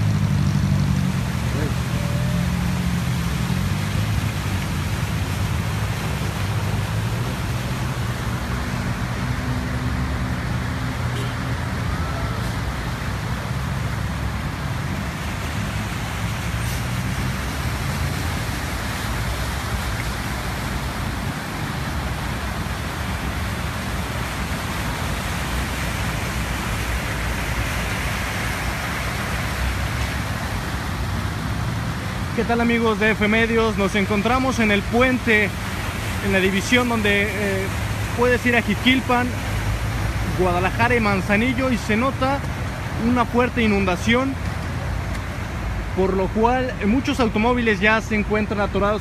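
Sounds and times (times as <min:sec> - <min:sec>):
tyres splashing through water: 0:00.0 - 0:49.0
vehicle engines running low: 0:00.0 - 0:49.0.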